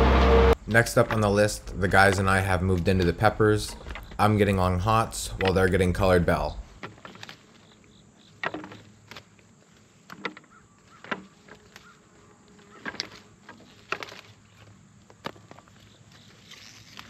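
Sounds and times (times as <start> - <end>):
plants rustling and crackling: 0.7 - 17.0.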